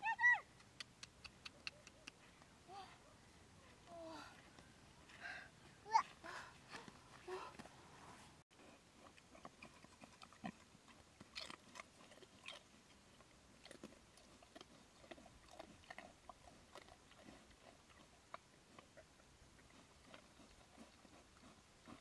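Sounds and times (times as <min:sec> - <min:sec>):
pig foraging and chewing: 0:00.6 - 0:22.0.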